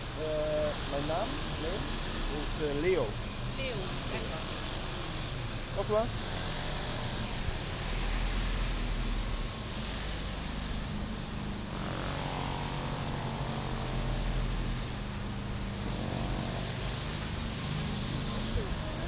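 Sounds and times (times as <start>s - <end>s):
street noise hiss: 0.0s - 19.0s.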